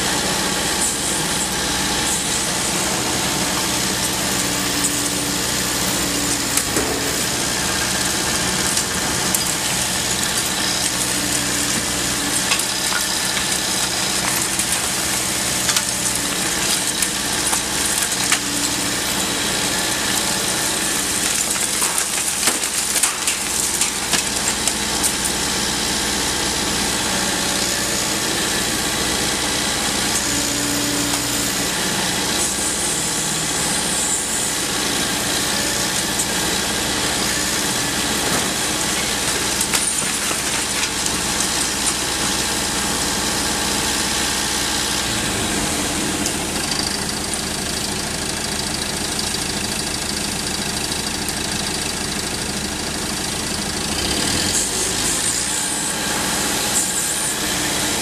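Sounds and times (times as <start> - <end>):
excavator diesel engine running: 0.0 - 58.0
masonry cracking and debris falling: 1.0 - 49.1.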